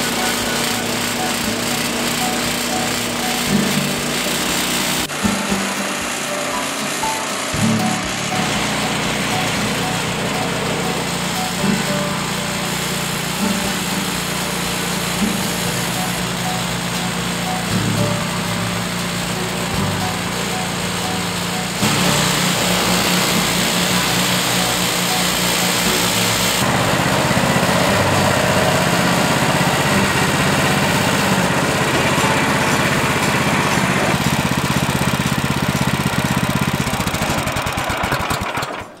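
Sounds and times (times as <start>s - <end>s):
small gasoline engine running: 0.0s - 39.0s.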